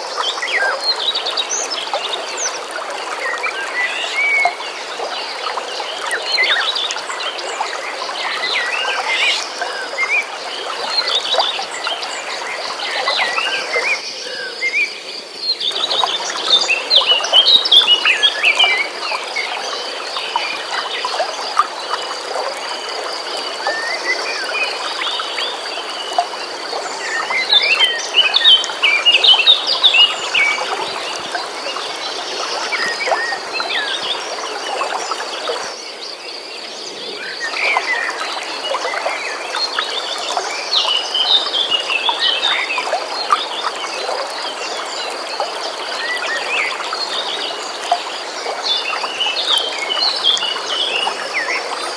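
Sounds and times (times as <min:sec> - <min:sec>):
stream flowing: 0:00.0 - 0:51.9.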